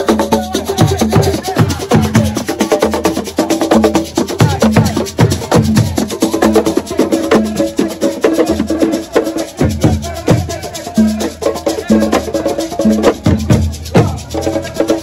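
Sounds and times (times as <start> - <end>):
drums and percussion rhythm: 0.0 - 15.0.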